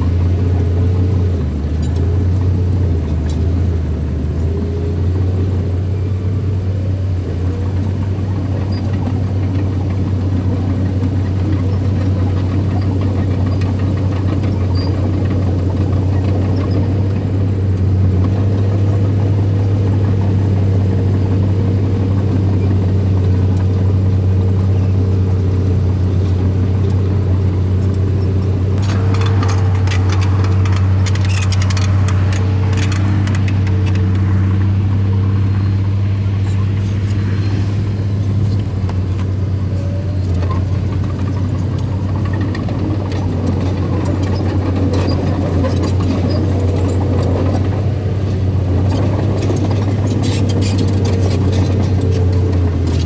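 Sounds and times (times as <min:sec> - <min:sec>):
diesel machinery engine droning: 0:00.0 - 0:53.0.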